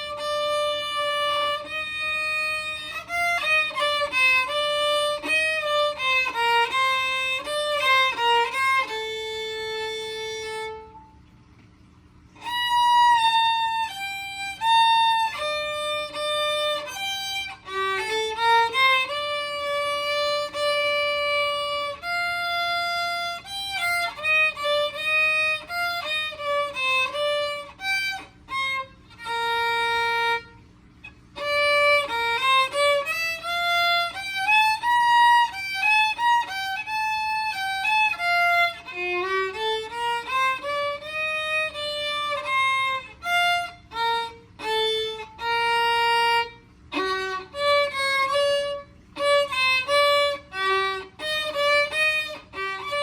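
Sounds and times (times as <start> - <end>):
solo violin melody: 0.0 - 11.2, 12.4 - 53.0.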